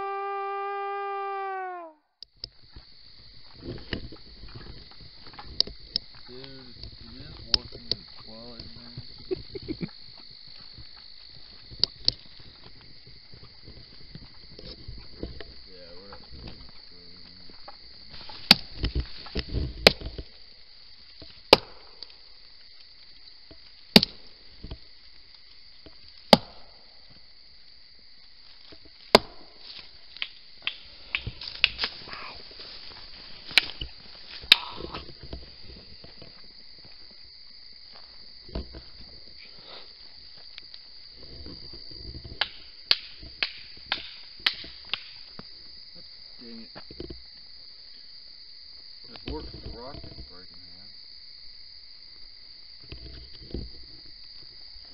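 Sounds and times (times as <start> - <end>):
night insects droning: 0.0 - 54.9.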